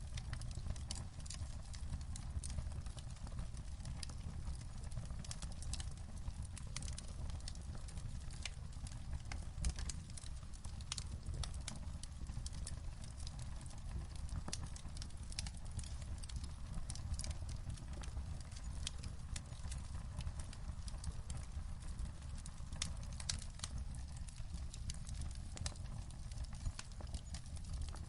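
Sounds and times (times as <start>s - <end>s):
low rumble of burning logs: 0.0s - 28.0s
wood fire snaps and pops: 0.0s - 28.0s.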